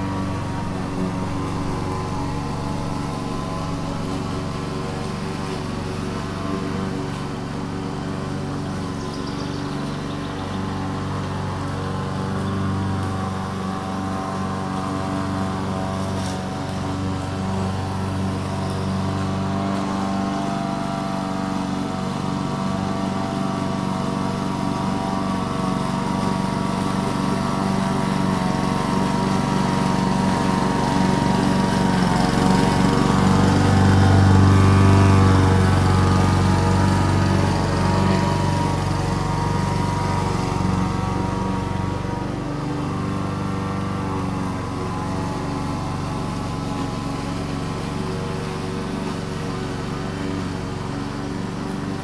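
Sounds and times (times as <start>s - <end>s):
lawn mower engine cutting grass: 0.0s - 52.0s.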